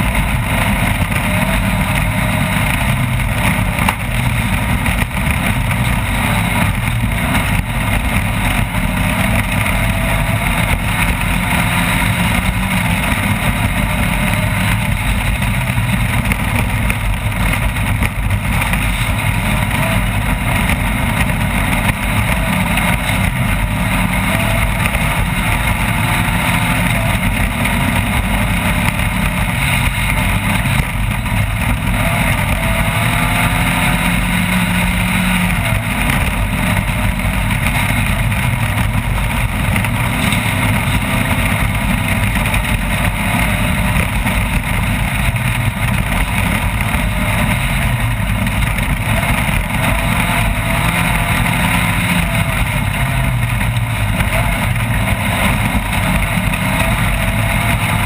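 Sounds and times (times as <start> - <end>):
engine running hard: 0.0 - 58.0
loud rushing noise: 0.0 - 58.0.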